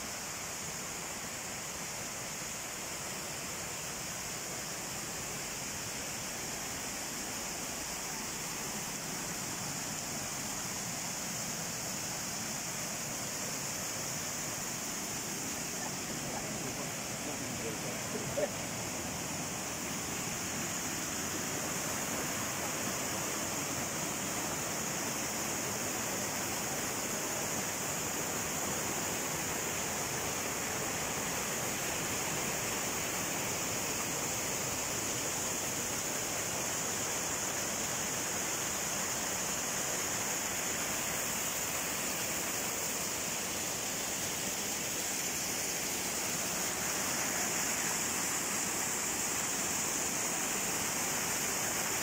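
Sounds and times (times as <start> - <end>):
water rushing over rocks: 0.1 - 52.0.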